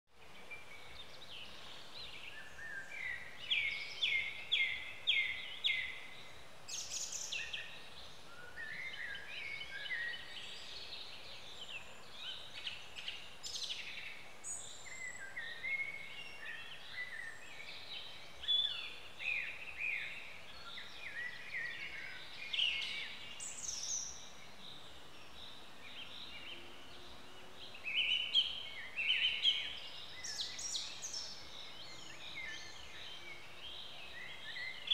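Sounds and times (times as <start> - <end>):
faint background hiss: 0.1 - 34.9
songbirds chirping and singing: 0.2 - 34.9.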